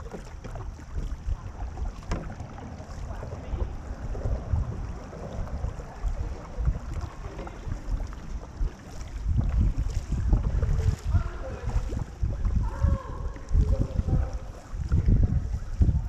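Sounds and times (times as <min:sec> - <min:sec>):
paddles splashing through water: 0:00.0 - 0:16.0
wind rumbling on microphone: 0:00.0 - 0:16.0.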